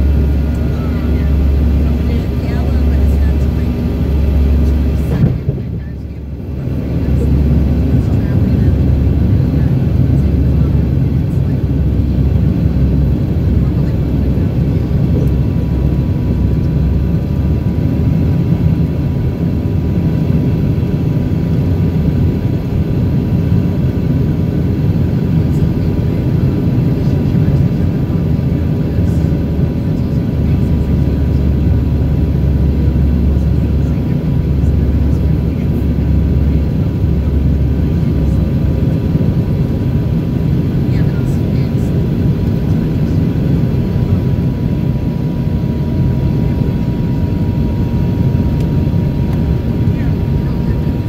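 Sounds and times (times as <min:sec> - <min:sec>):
faint steady whining tones: 0:00.0 - 0:51.0
low roar of jet engines and airflow: 0:00.0 - 0:51.0.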